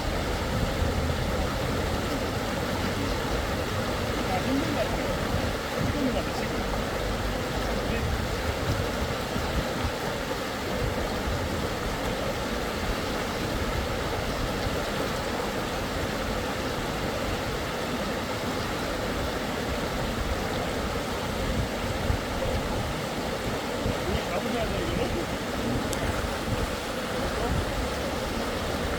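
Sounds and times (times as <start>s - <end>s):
rushing creek water: 0.0s - 28.9s.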